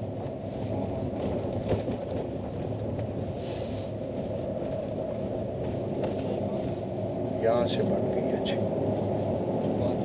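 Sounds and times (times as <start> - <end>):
engine and tyre rumble on gravel: 0.0 - 10.0.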